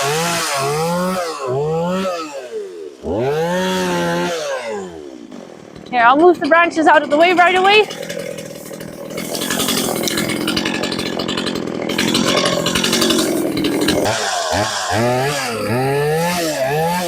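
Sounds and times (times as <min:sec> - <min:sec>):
chainsaw cutting branches: 0:00.0 - 0:17.0.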